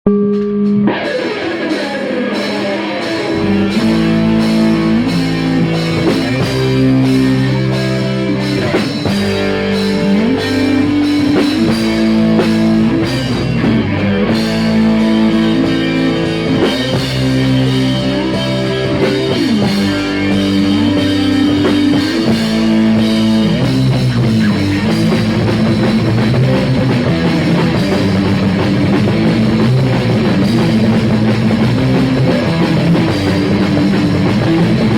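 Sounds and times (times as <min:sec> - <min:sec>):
electric guitar chords: 0:00.1 - 0:34.9
rock band playing: 0:00.1 - 0:34.9
drums and cymbals: 0:00.3 - 0:34.9.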